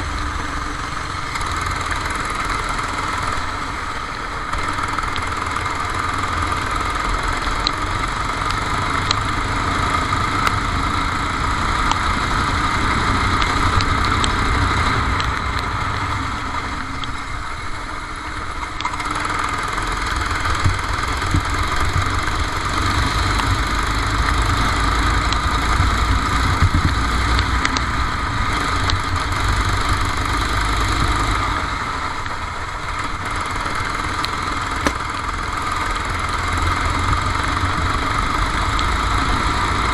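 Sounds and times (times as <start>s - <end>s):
heavy low rumble: 0.0s - 18.8s, 20.1s - 39.9s
kart engine running: 0.0s - 39.9s.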